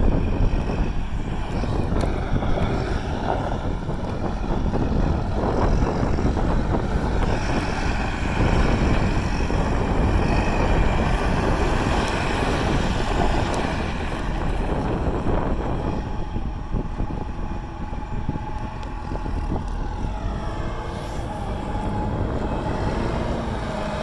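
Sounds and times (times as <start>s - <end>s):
backhoe engine running: 0.0s - 24.0s.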